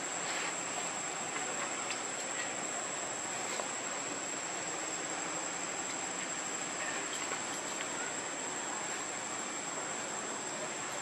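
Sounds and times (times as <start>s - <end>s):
background hiss: 0.0s - 11.0s
insects droning: 0.0s - 11.0s.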